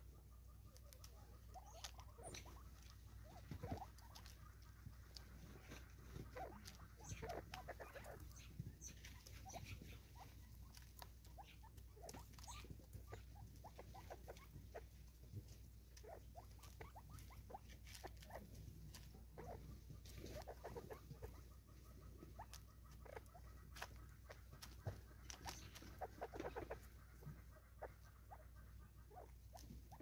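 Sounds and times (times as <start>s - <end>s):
soft clucking calls: 0.0s - 30.0s.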